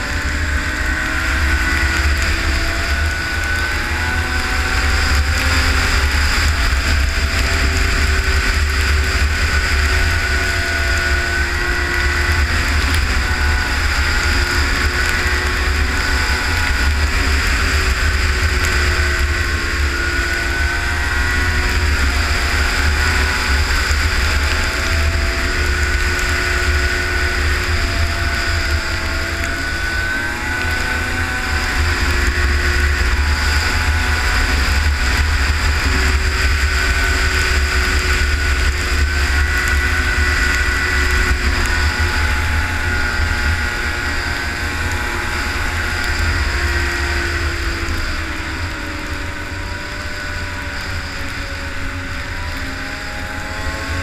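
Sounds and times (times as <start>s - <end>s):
snowmobile engine running: 0.0s - 54.0s
wind rumble on microphone: 0.0s - 54.0s.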